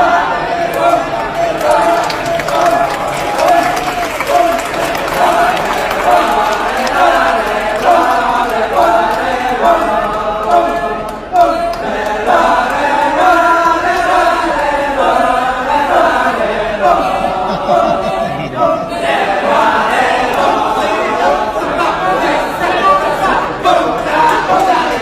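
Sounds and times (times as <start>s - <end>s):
group of voices chanting: 0.0s - 25.0s.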